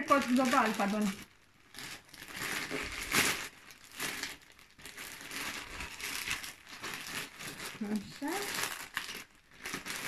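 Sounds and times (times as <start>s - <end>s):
plastic mailer bag crinkling: 0.0s - 10.0s.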